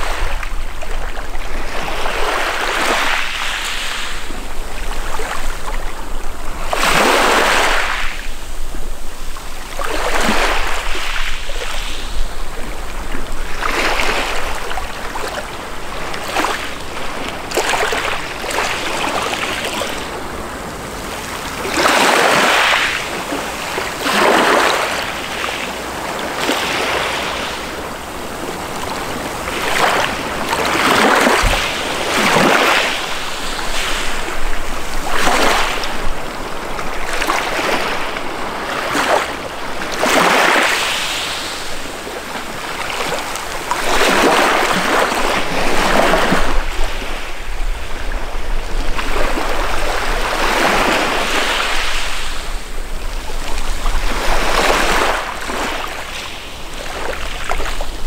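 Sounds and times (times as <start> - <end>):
waves washing on pebble beach: 0.0 - 58.0.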